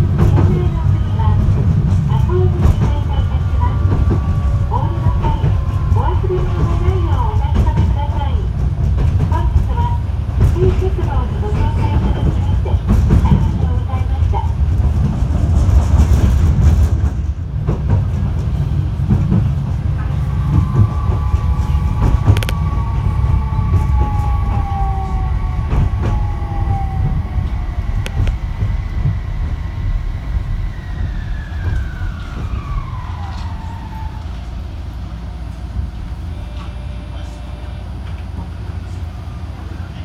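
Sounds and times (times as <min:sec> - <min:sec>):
tram interior low rumble: 0:00.0 - 0:40.0.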